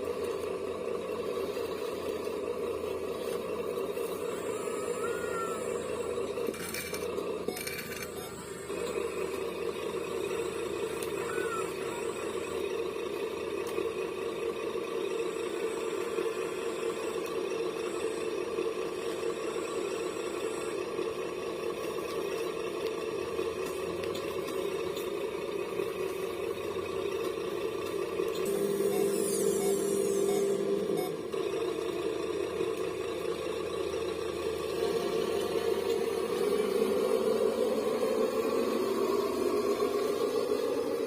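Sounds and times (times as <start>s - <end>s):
small electric motor whine: 0.0s - 41.0s.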